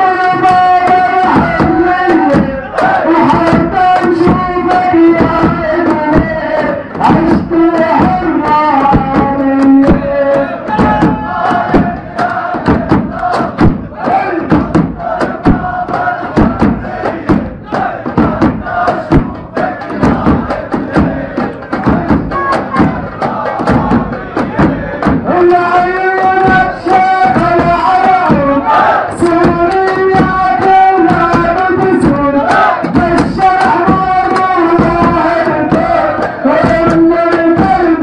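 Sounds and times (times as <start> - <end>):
crowd chanting and singing: 0.0 - 38.0
sharp percussive beats: 0.0 - 38.0.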